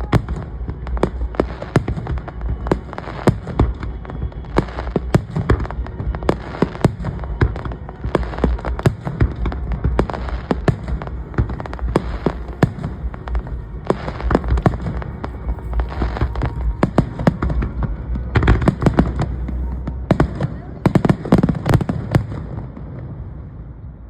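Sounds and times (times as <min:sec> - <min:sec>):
fireworks bursting: 0:00.0 - 0:23.6
low rumble: 0:00.0 - 0:24.0.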